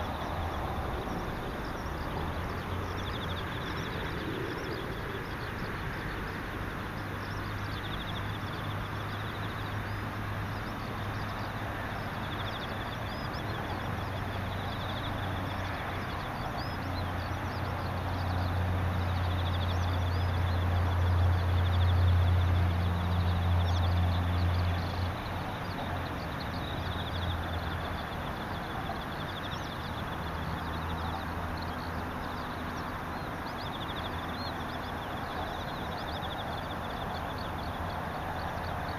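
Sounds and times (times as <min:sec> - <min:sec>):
insects trilling: 0:00.0 - 0:38.9
low engine-like hum: 0:00.0 - 0:38.9
steady outdoor hiss: 0:00.0 - 0:38.9.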